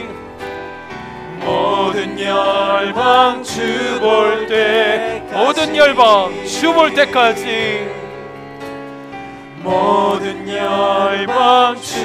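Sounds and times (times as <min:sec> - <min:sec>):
worship singing with vibrato: 0:00.0 - 0:00.2, 0:01.3 - 0:12.0
instrumental accompaniment: 0:00.0 - 0:12.0.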